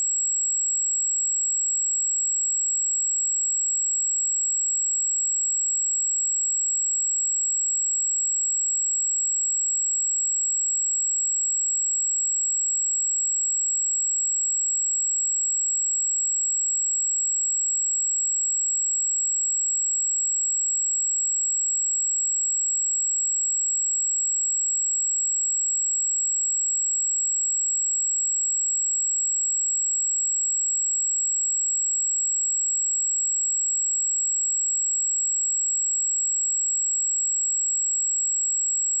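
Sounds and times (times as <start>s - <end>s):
high-pitched sine test tone: 0.0s - 39.0s.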